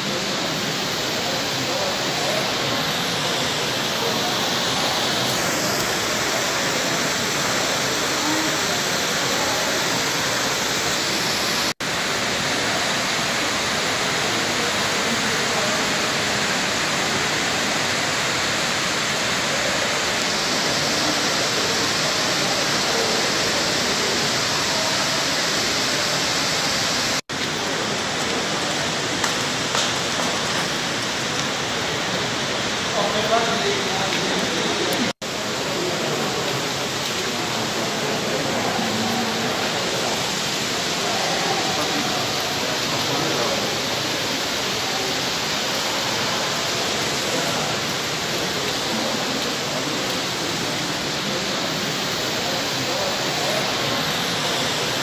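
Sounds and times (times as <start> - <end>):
running water echoing in a cave: 0.0 - 55.0.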